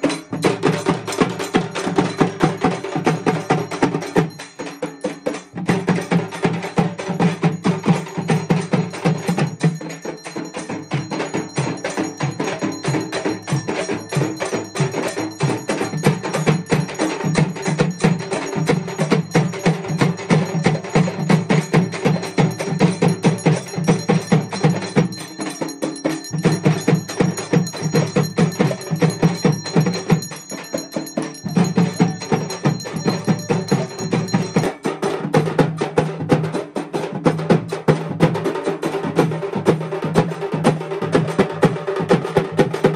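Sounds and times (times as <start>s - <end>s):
frame drums beaten fast: 0.0s - 42.9s.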